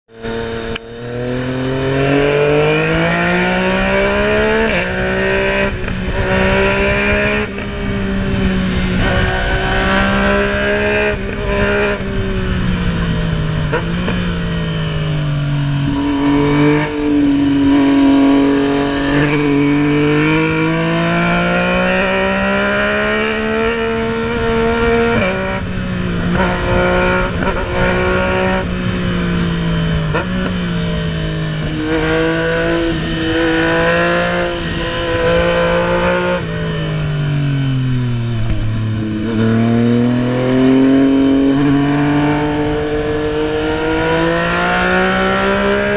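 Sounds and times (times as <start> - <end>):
motorcycle engine revving: 0.1 - 45.9
wind noise rumbling: 0.3 - 45.9.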